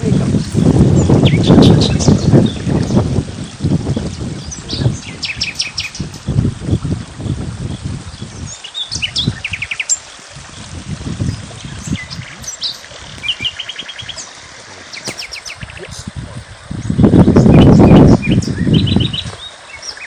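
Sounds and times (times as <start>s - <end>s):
small birds chirping and singing: 0.0s - 20.0s.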